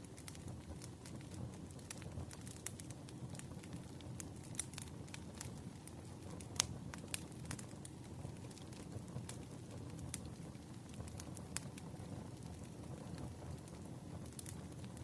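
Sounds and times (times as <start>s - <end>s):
firewood crackling and popping: 0.0s - 15.0s
low rush of flame: 0.0s - 15.0s.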